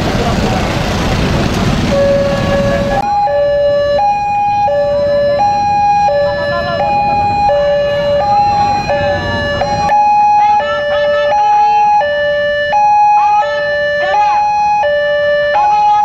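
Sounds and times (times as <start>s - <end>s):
street and crowd noise: 0.0s - 16.0s
two-tone warning siren: 1.8s - 16.0s.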